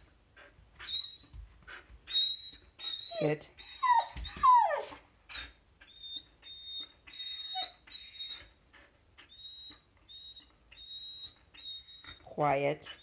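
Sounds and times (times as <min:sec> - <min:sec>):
puppy whining: 0:00.4 - 0:13.0.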